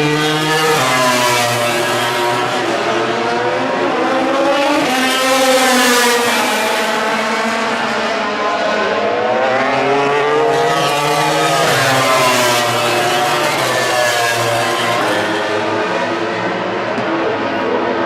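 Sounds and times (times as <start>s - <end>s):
racing motorcycle engines high revs: 0.0s - 18.0s.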